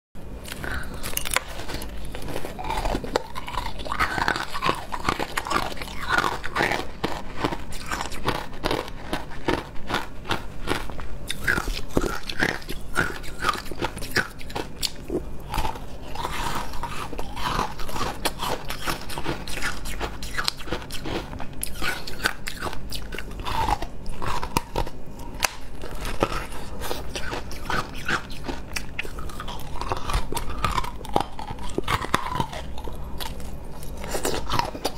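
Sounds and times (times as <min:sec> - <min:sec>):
crunching and chewing ice: 0:00.4 - 0:34.9.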